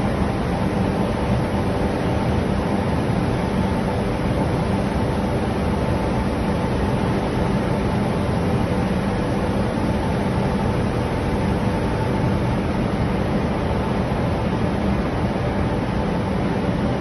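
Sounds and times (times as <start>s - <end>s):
fan and air rushing: 0.0s - 17.0s.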